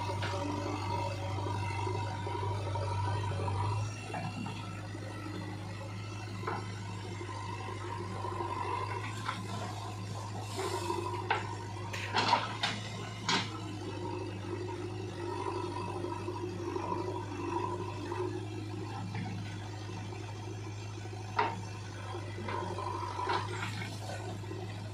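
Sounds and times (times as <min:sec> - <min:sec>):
diesel engines running: 0:00.0 - 0:24.9.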